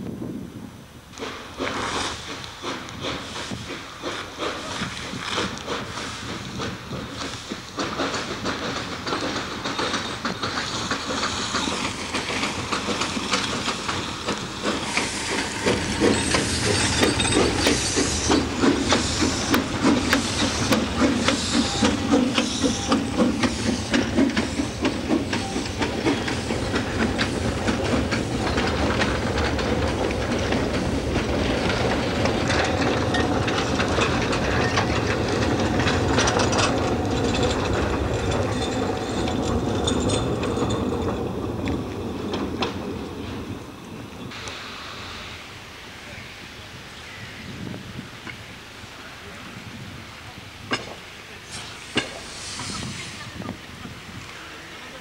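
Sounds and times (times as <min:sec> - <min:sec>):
train hissing: 0:00.3 - 0:55.0
rhythmic train clatter: 0:01.0 - 0:55.0.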